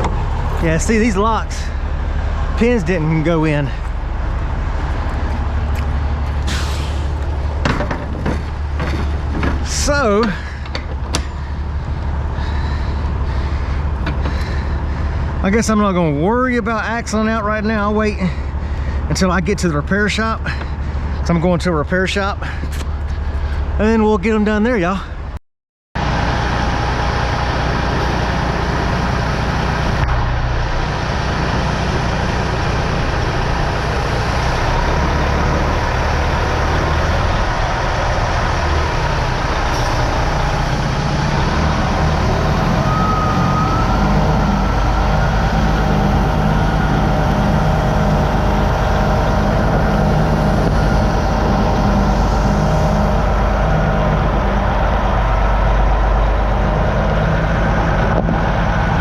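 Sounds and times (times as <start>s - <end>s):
truck diesel engine rumbling: 0.0s - 25.4s, 26.0s - 59.0s.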